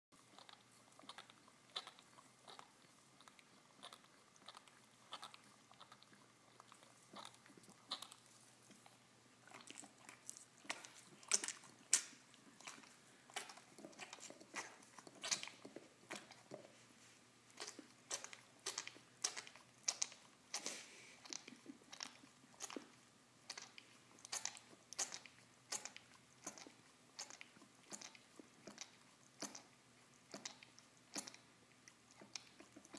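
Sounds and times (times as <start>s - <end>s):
dog gnawing on bone: 0.3s - 16.8s, 17.5s - 32.9s.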